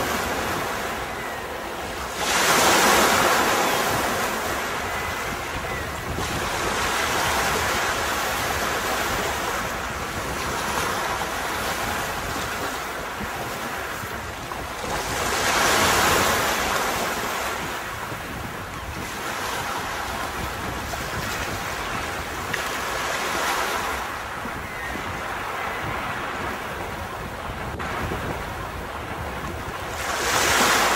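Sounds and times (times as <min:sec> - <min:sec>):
waves washing onto beach: 0:00.0 - 0:30.9.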